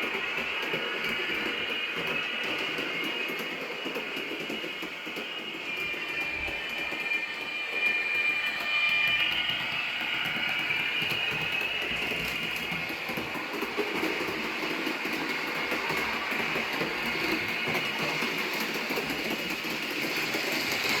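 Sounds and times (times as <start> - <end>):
model train running noise: 0.0 - 21.0.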